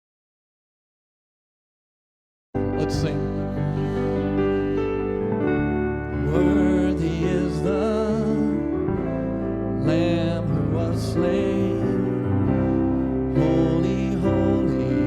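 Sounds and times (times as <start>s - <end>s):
person singing: 2.6s - 15.0s
piano and keyboard chords: 2.6s - 15.0s.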